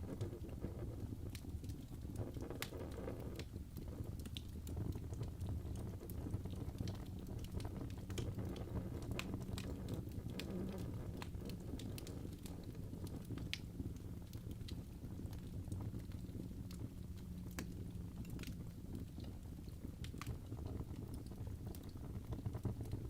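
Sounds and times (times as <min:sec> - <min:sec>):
fire crackling and popping: 0:00.0 - 0:23.0
low rumble of flame: 0:00.0 - 0:23.0.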